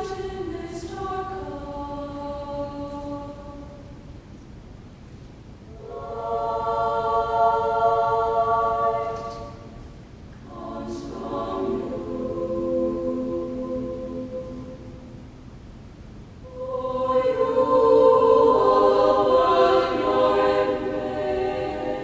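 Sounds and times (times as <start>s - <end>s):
girls' choir singing: 0.0s - 3.9s, 5.7s - 9.8s, 10.4s - 15.2s, 16.5s - 22.0s.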